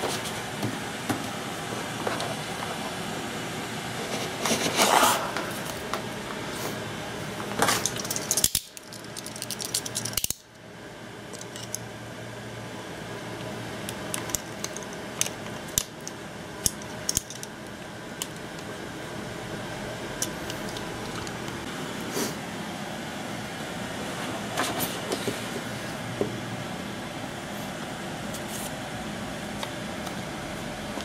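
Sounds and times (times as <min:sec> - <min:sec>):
steady background noise: 0:00.0 - 0:31.0.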